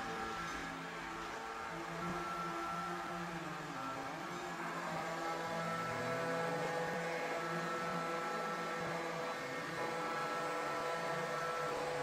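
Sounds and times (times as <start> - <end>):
robot vacuum motor whirring: 0.0 - 12.0.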